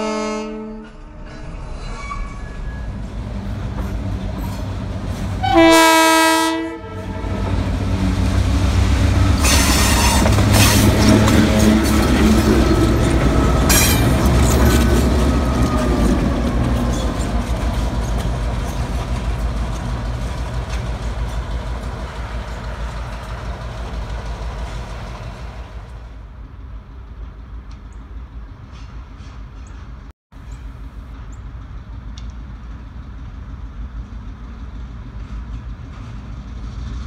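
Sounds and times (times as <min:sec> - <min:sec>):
diesel locomotive engine passing: 0:00.0 - 0:37.0
train wheels clicking on track: 0:03.0 - 0:05.6, 0:07.0 - 0:37.0.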